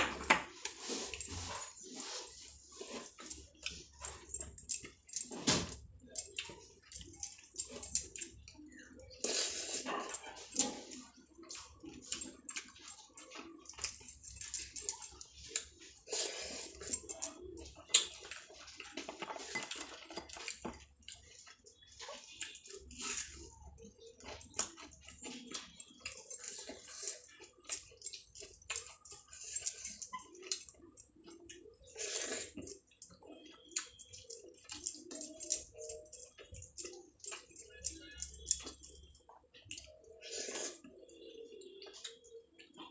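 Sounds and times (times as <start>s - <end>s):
squelchy eating noise: 0.5s - 42.9s
wet chewing and mouth smacking: 0.5s - 42.9s.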